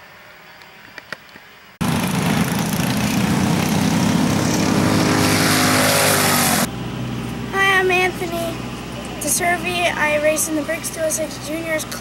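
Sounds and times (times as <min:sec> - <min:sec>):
kart engine running: 0:01.8 - 0:12.0.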